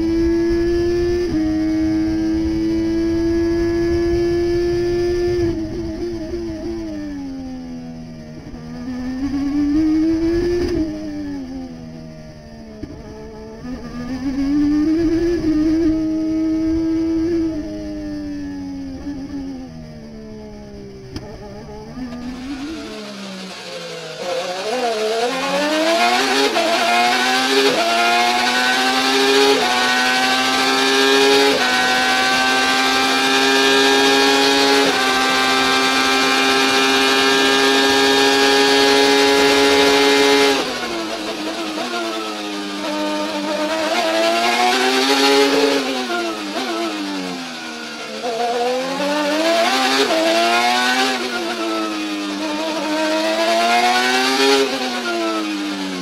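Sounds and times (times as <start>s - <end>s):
race car engine revving: 8.3s - 56.0s.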